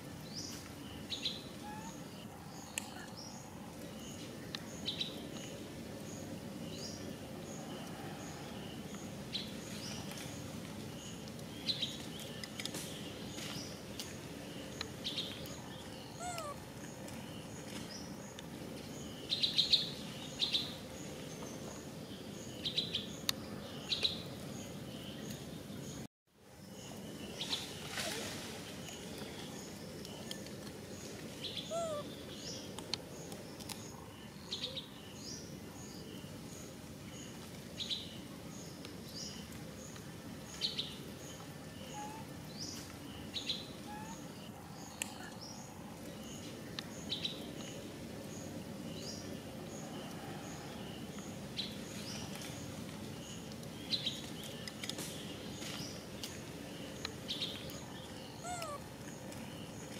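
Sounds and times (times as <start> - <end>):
birds chirping: 0.1 - 59.9.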